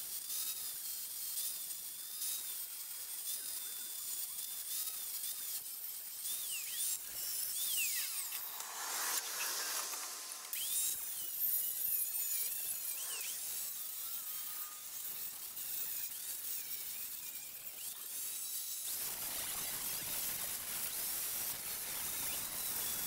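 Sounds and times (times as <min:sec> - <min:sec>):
angle grinder cutting steel: 0:00.0 - 0:23.0.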